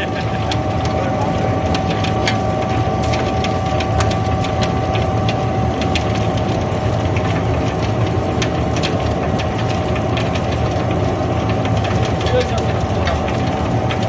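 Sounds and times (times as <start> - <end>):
machine drone: 0.0 - 14.0
steady machine whine: 0.0 - 14.0.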